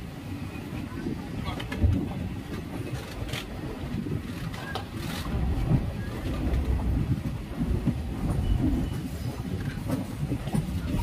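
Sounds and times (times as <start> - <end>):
train coaches running on track: 0.0 - 11.0
wind buffeting microphone: 0.0 - 11.0.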